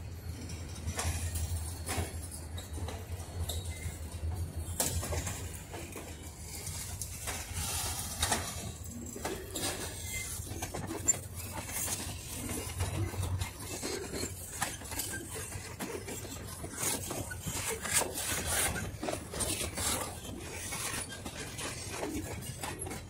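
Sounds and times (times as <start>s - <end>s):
freight cars rattling and rumbling: 0.0s - 23.0s.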